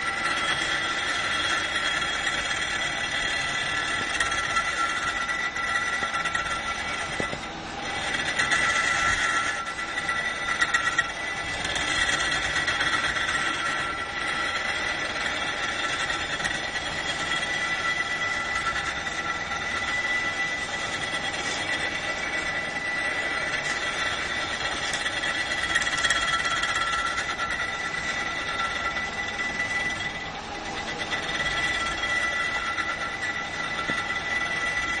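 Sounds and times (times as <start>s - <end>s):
lathe whining: 0.0s - 35.0s
tool grinding salt: 0.0s - 35.0s.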